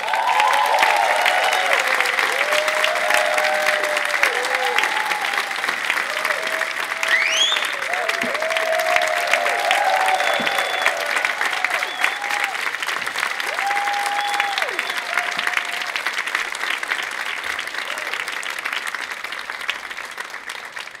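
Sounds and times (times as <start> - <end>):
audience applauding: 0.0 - 21.0
crowd cheering: 0.0 - 21.0.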